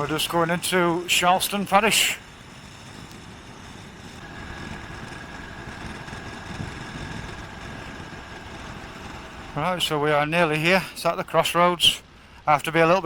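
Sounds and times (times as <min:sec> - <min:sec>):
motorcycle engine rumble: 0:00.0 - 0:11.4
thin steady whine: 0:00.0 - 0:13.0.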